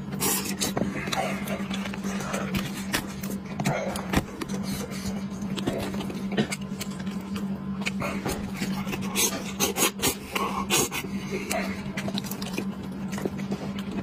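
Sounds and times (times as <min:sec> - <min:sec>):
steady low hum: 0:00.0 - 0:14.0
chewing with mouth clicks: 0:00.1 - 0:14.0.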